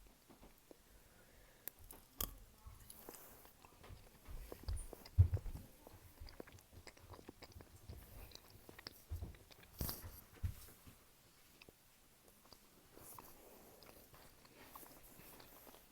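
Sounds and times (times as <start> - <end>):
chewing with mouth clicks: 1.6 - 15.9.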